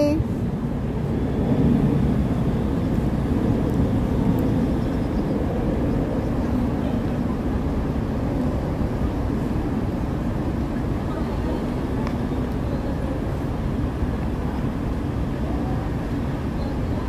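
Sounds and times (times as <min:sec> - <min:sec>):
city background rumble: 0:00.0 - 0:17.0.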